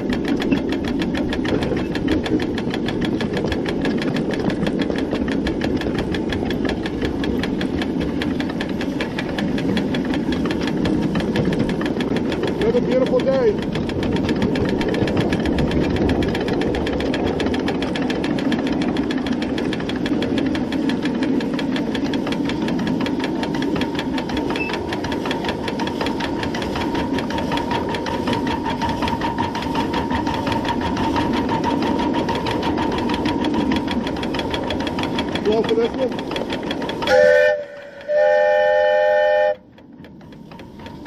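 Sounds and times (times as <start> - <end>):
model steam locomotive running: 0.0 - 41.0.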